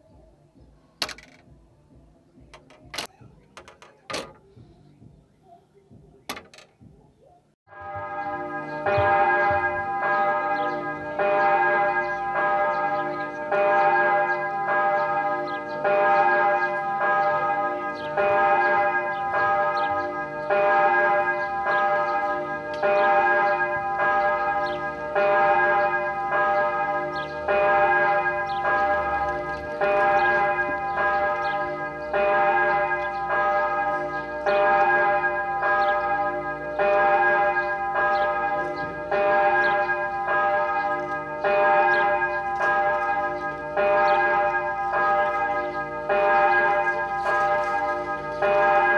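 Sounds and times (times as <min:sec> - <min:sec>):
church bell tolling: 0:07.7 - 0:48.9.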